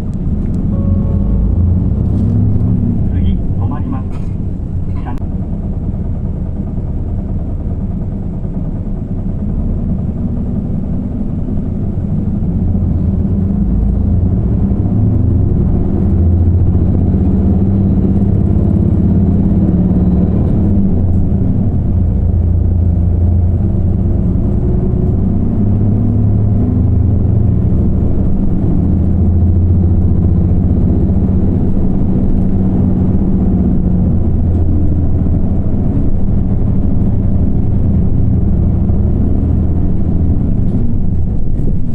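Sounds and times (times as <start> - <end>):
bus diesel engine accelerating: 0.0 - 41.9
engine cooling fan: 0.0 - 41.9.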